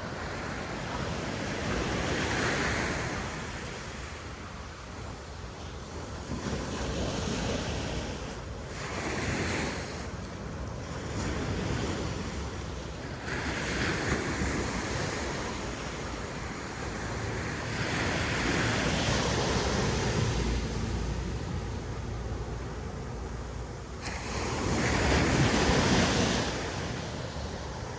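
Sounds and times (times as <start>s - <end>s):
ocean waves breaking on beach: 0.0s - 27.9s
wind rumble on microphone: 0.0s - 27.9s.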